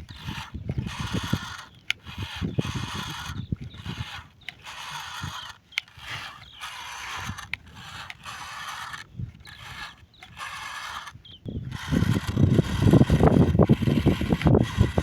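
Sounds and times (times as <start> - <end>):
plastic toy vehicles whirring: 0.0 - 15.0.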